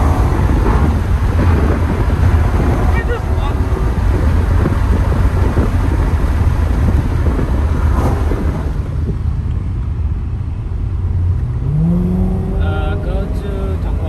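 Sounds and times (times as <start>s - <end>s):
car engine drone from cabin: 0.0s - 14.0s
road noise rumble: 0.0s - 14.0s.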